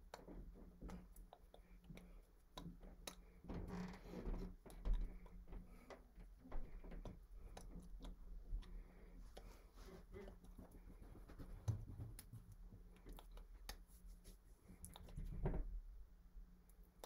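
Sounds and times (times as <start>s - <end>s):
hands tapping and rustling: 0.0s - 15.8s
low electrical hum: 0.0s - 17.0s.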